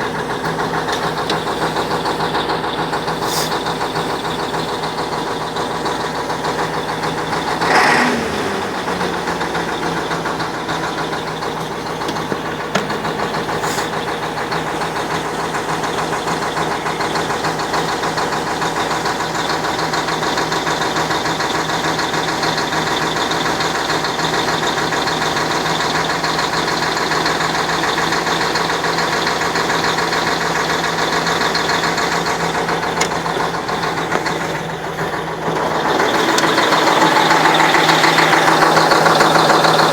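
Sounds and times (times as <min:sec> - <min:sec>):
diesel truck engine idling: 0:00.0 - 0:39.9
engine knock: 0:00.0 - 0:39.9.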